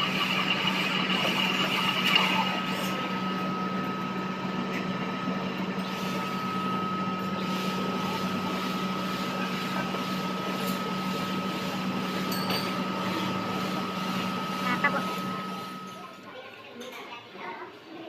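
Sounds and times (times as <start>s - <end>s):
metal lathe humming: 0.0s - 16.0s
thin high whine: 0.0s - 16.2s.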